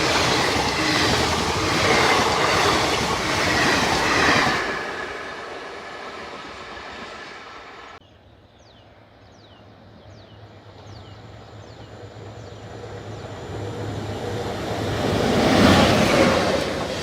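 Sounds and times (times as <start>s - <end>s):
train rumble: 0.0s - 8.0s, 8.9s - 17.0s.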